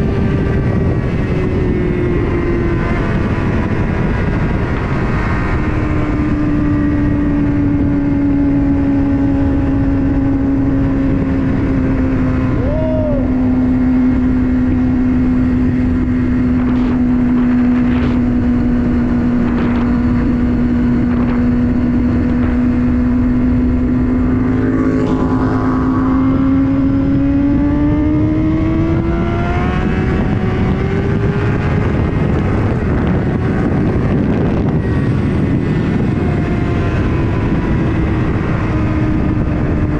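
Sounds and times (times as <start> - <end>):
heavy wind noise: 0.0 - 39.9
motorcycle engine at high revs: 0.0 - 39.9.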